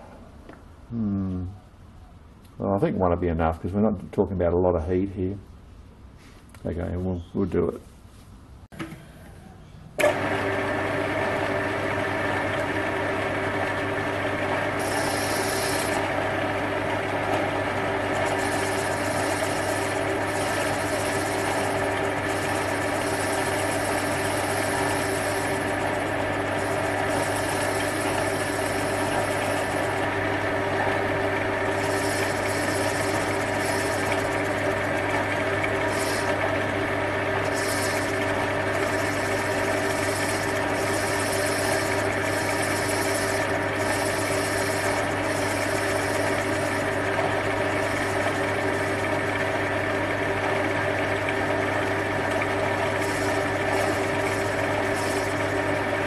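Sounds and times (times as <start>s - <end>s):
lathe motor humming: 10.0s - 56.0s
lathe tool cutting metal: 10.0s - 56.0s.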